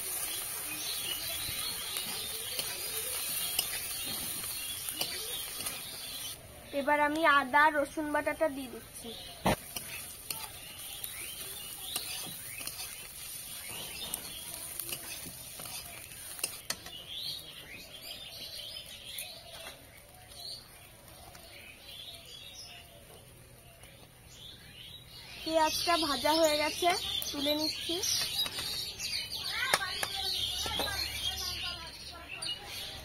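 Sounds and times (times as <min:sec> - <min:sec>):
onions sizzling in oil: 0:00.0 - 0:22.7, 0:25.1 - 0:33.0
small birds chirping: 0:00.0 - 0:33.0.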